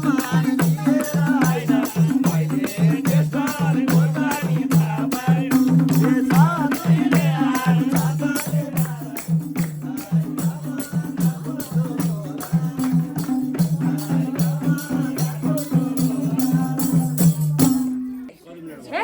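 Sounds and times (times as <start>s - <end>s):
jingling hand percussion: 0.0s - 18.9s.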